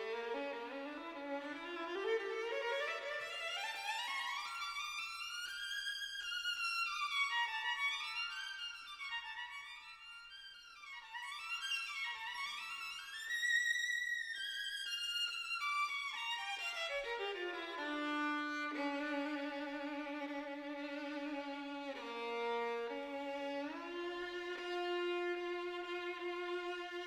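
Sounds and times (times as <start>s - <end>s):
solo violin melody: 0.0s - 27.0s.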